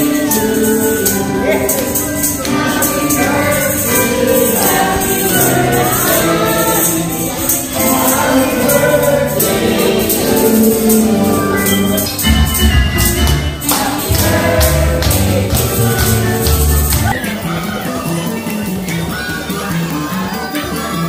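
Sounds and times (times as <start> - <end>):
group singing a birthday song: 0.0 - 17.2
rhythmic hand clapping: 0.0 - 21.0.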